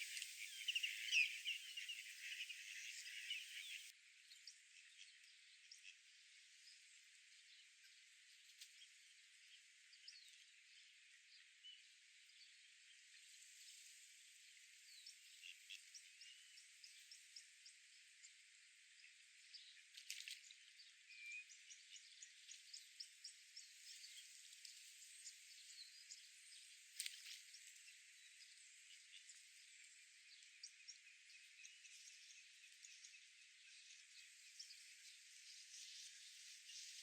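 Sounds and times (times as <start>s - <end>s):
small high chirps and ticks: 0.0s - 37.0s.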